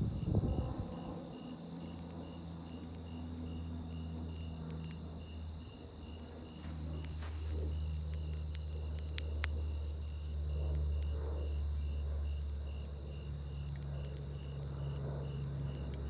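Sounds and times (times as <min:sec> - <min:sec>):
crickets chirping: 0:00.0 - 0:16.0
low steady rumble: 0:00.0 - 0:16.0.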